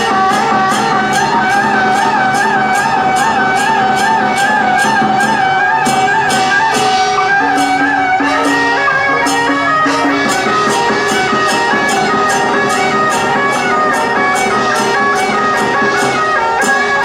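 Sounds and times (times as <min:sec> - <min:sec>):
percussion strikes: 0:00.0 - 0:17.0
reed wind instrument melody: 0:00.0 - 0:17.0.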